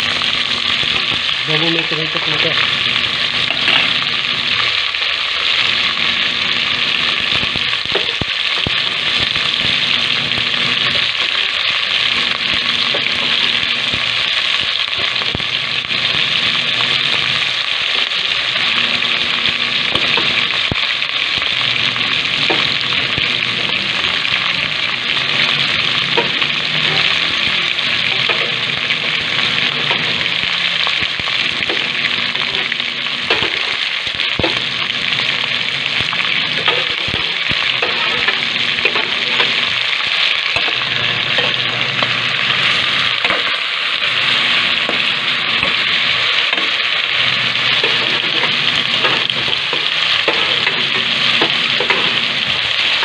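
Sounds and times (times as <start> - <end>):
meat sizzling in a pot: 0.0 - 53.0.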